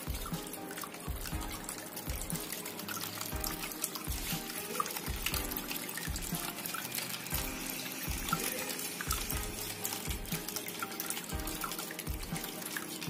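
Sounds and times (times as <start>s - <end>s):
background music with beat: 0.0s - 13.0s
water trickling and splashing: 0.0s - 13.0s.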